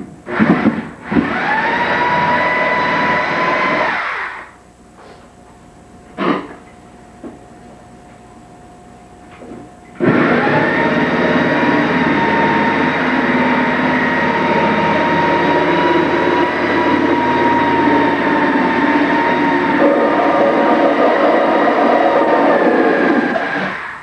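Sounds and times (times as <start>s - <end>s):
machine drone with high whine: 0.0s - 24.0s.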